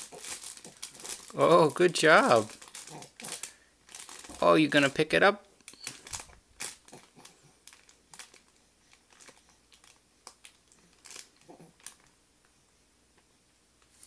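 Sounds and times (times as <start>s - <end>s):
crinkly fabric mat rustling: 0.0s - 5.1s, 5.8s - 12.1s.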